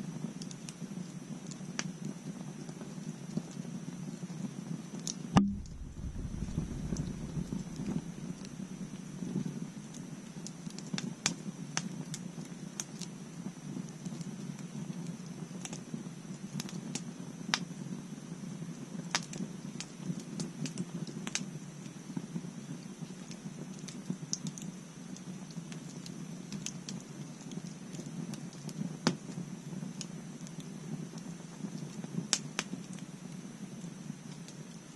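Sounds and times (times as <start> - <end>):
bonfire crackling and popping: 0.0 - 34.8
low rumble of flame: 0.0 - 34.9.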